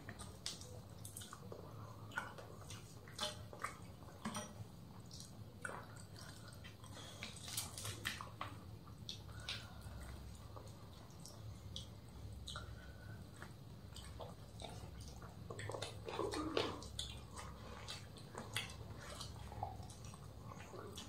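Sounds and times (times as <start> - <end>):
chewing: 0.0 - 21.0
low steady hum: 0.0 - 21.0.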